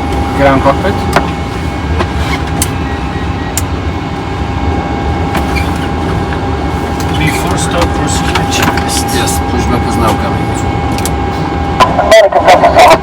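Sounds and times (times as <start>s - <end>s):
cockpit systems rumble and hiss: 0.0s - 13.0s.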